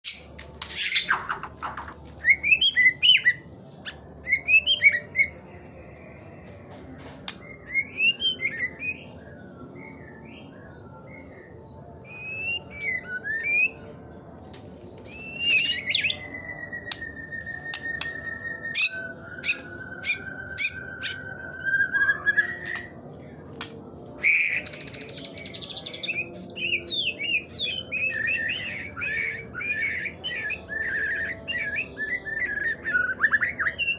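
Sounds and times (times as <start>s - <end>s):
bird whistling song: 0.0s - 5.4s, 7.3s - 10.4s, 12.1s - 13.9s, 15.0s - 23.0s, 23.6s - 33.9s
long level bird whistle: 2.2s - 5.4s, 7.4s - 13.9s, 15.0s - 23.1s, 24.2s - 33.9s.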